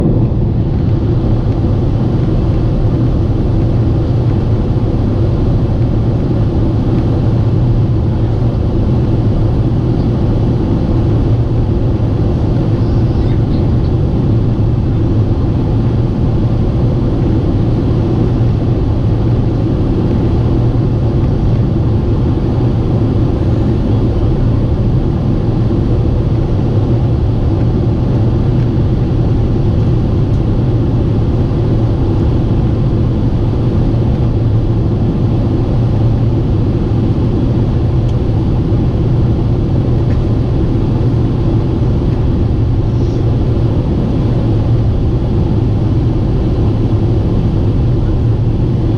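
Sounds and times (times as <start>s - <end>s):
airplane cabin engine roar: 0.0s - 48.9s.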